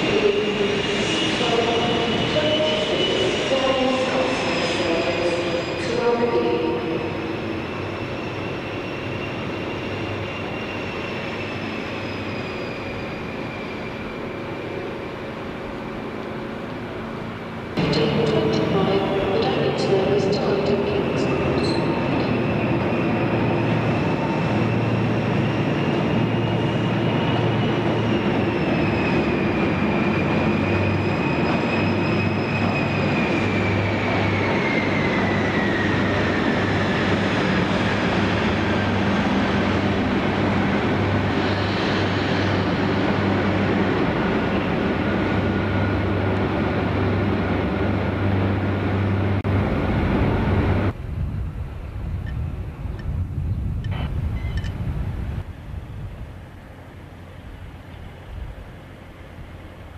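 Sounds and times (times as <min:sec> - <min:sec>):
diesel train engine hum: 0:00.0 - 0:59.9.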